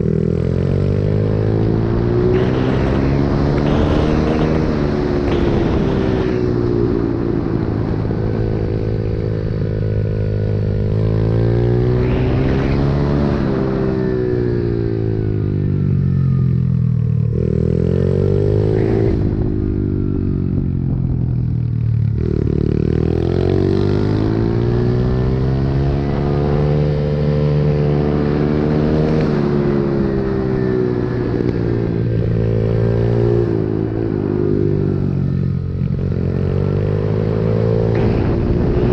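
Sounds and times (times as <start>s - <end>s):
motorbike engine revving: 0.0s - 15.7s, 22.1s - 38.9s.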